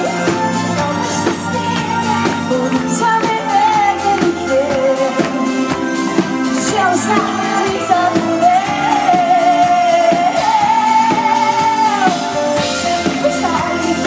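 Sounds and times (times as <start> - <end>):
band with drums and keyboards: 0.0 - 14.0
woman singing a pop song: 0.0 - 14.0.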